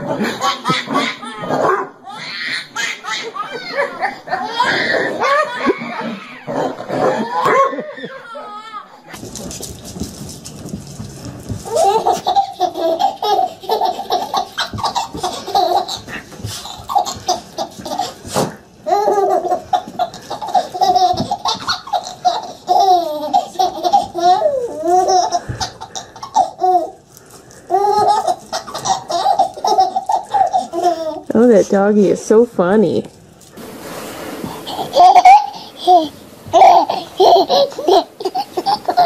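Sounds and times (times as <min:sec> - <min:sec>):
baby laughing: 0:00.0 - 0:09.2, 0:11.6 - 0:27.0, 0:27.7 - 0:31.3, 0:34.5 - 0:39.0.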